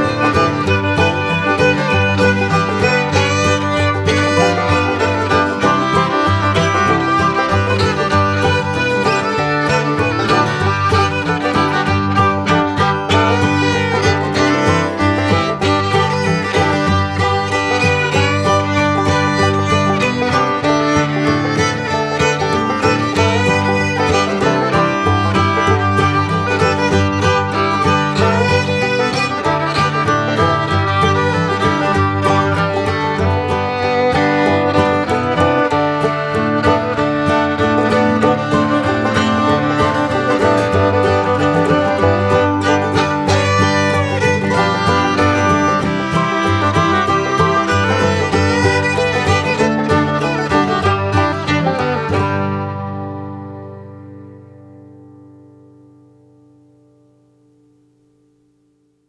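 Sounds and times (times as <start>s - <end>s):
upbeat bluegrass tune with fiddle: 0.0s - 54.5s.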